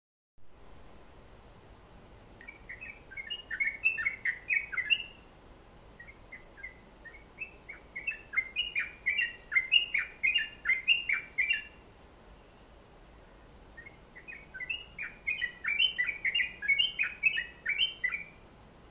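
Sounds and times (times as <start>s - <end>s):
songbird chirping: 0.8s - 18.9s.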